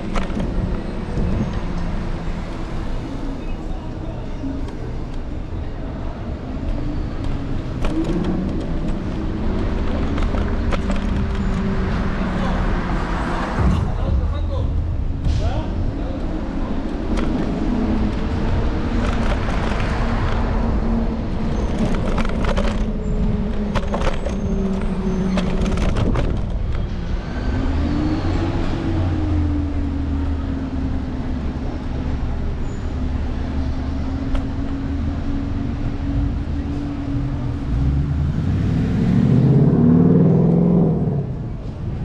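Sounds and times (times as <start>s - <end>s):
street traffic rumble: 0.0s - 42.0s
vehicle engine hum: 0.0s - 42.0s.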